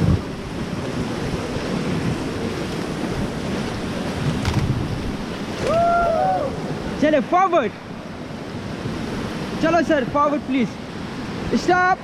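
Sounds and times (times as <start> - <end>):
wind buffeting microphone: 0.0 - 11.6
river rapids rushing: 0.0 - 12.0.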